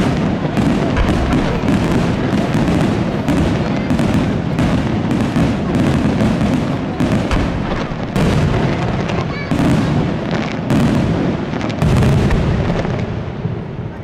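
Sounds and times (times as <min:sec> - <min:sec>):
firework shells bursting: 0:00.0 - 0:13.2.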